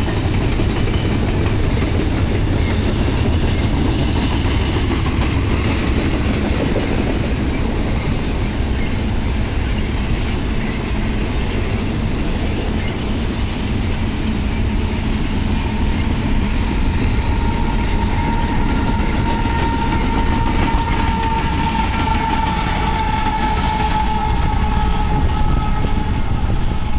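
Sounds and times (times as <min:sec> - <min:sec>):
freight train wheels rumbling: 0:00.0 - 0:26.9.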